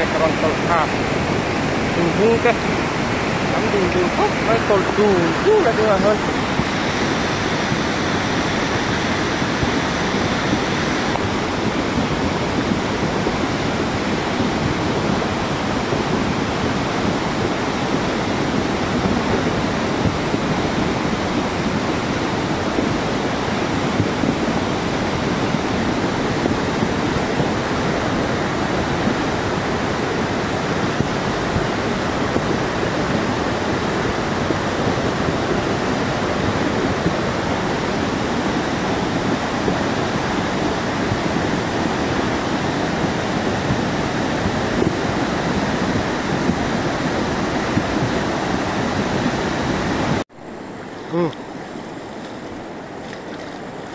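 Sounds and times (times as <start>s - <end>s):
river rushing with loud roar: 0.0s - 53.9s.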